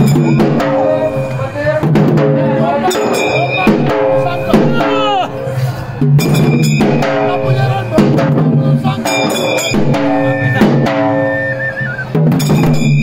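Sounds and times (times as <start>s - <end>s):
large drums beating: 0.0s - 13.0s.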